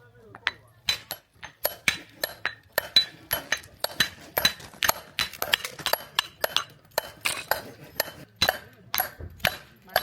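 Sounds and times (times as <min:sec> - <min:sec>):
metal wedges struck with clinks: 0:00.4 - 0:10.0.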